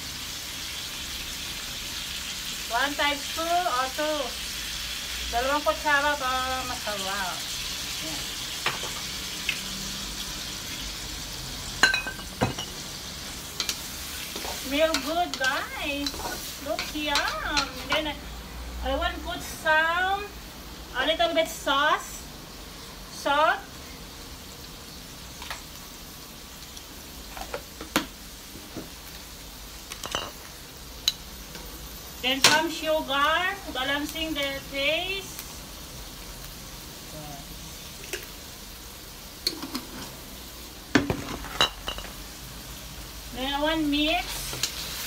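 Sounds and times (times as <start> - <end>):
food sizzling in a wok: 0.0 - 45.0.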